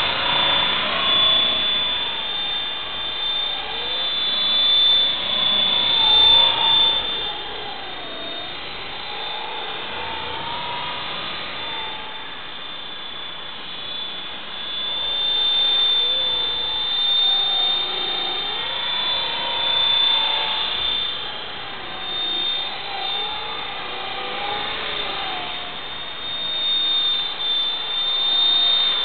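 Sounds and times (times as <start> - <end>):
electric helicopter whining: 0.0 - 29.0.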